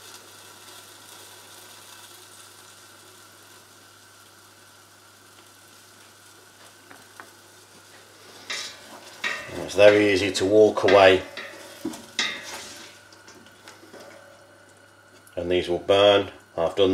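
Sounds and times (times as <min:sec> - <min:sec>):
bacon sizzling in a pot: 0:00.0 - 0:16.9.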